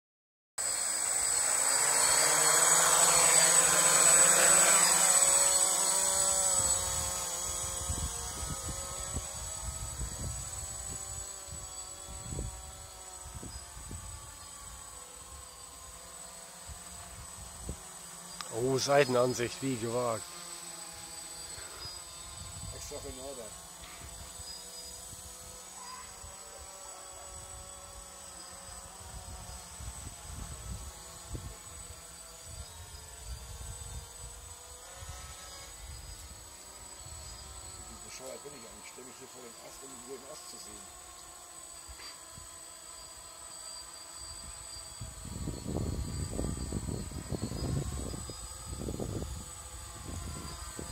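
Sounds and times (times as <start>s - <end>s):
drone propellers whirring: 0.6s - 50.9s.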